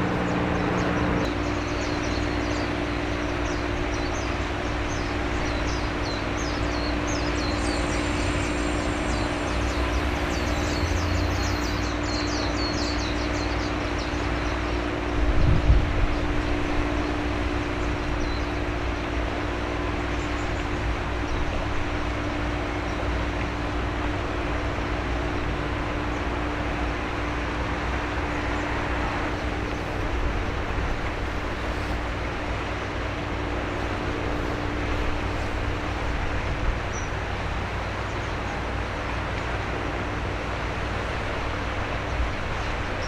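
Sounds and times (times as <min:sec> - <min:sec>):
ship diesel engine drone: 0:00.0 - 0:43.0.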